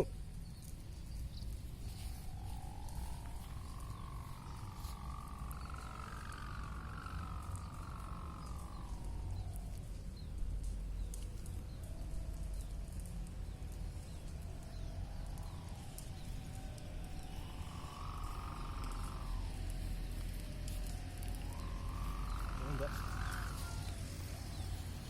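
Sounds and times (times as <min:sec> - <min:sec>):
wind buffeting microphone: 0:00.2 - 0:25.0
faint hum: 0:00.9 - 0:25.0.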